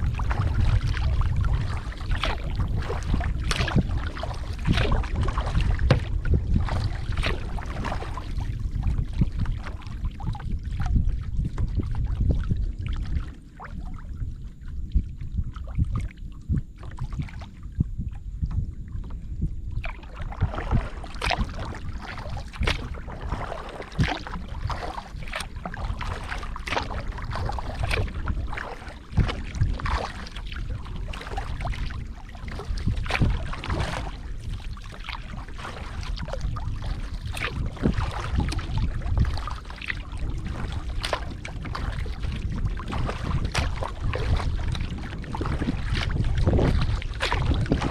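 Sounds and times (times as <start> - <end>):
water splashes and drips: 0.0 - 14.1, 19.8 - 47.9
wind rumbling on microphone: 0.0 - 47.9.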